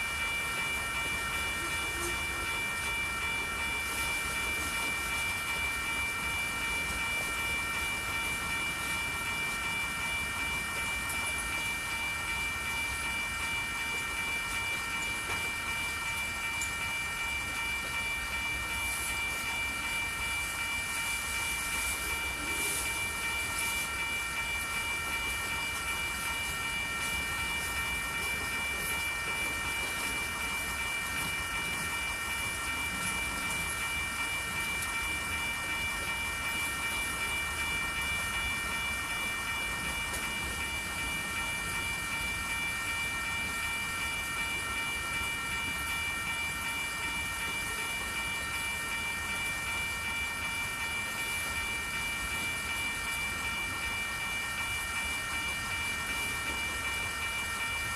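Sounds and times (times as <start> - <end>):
steady high-pitched tones: 0.0 - 57.9.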